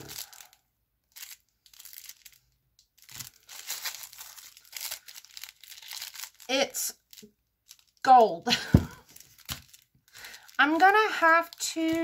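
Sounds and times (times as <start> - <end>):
paper wrapping crinkling and tearing: 0.0 - 12.0.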